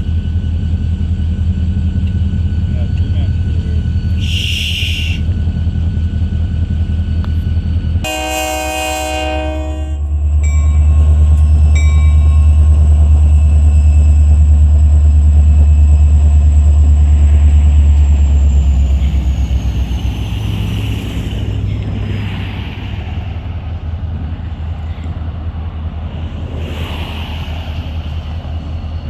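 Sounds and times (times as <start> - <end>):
diesel locomotive engine droning: 0.0 - 29.0.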